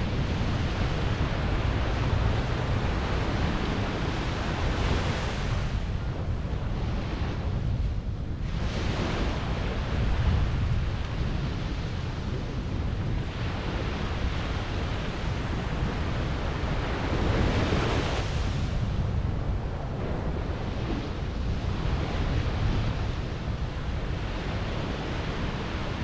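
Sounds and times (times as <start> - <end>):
ocean surf washing ashore: 0.0 - 26.0
wind buffeting microphone: 0.0 - 26.0.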